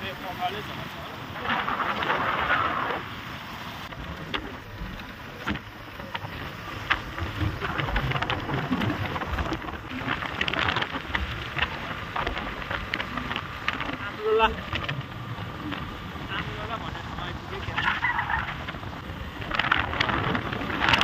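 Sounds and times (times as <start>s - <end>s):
road noise: 0.0s - 21.0s
wind rushing over microphone: 0.0s - 21.0s
crackles and knocks: 1.2s - 3.2s, 3.8s - 21.0s.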